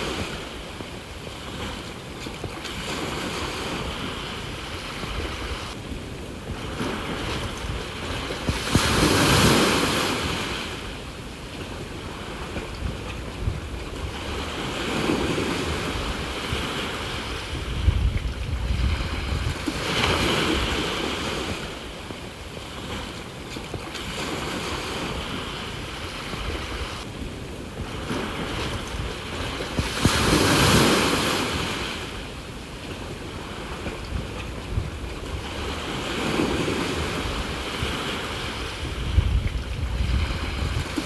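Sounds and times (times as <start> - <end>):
sea waves breaking ashore: 0.0 - 41.0
wind buffeting microphone: 0.0 - 41.0.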